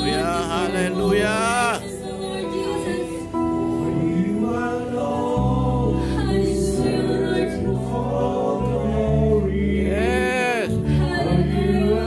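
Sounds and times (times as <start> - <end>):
keyboard chords: 0.0 - 12.0
men's backing vocals: 0.0 - 12.0
woman singing lead: 0.0 - 12.0.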